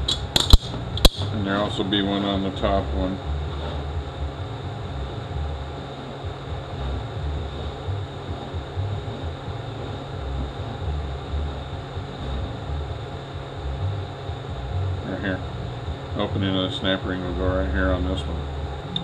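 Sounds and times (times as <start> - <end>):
faint high hum: 0.0 - 19.0
machinery rumble: 0.0 - 19.0.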